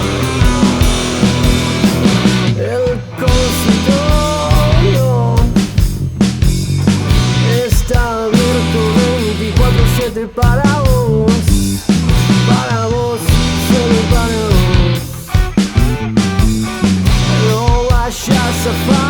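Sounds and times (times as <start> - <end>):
bass guitar: 0.0 - 19.0
bending lead guitar melody: 0.0 - 19.0
distorted electric guitars: 0.0 - 19.0
drums: 0.0 - 19.0.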